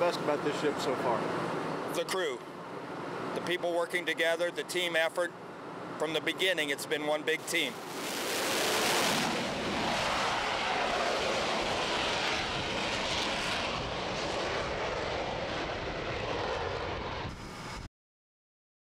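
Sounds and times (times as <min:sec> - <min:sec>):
jet engines at full power: 0:00.0 - 0:17.9.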